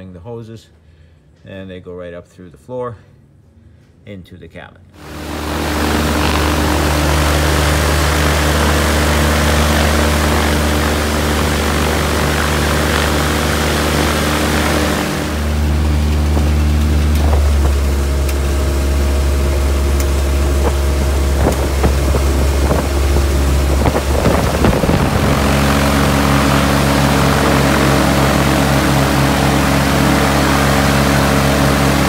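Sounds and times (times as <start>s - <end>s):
aircraft engine running: 5.0s - 32.0s.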